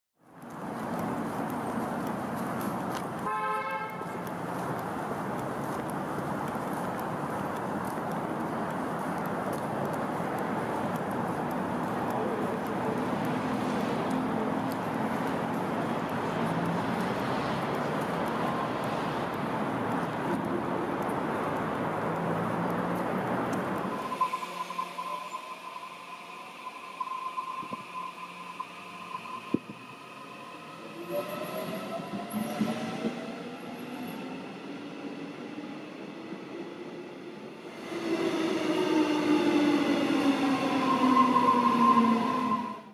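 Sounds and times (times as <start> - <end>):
distant road traffic: 0.2 - 42.9.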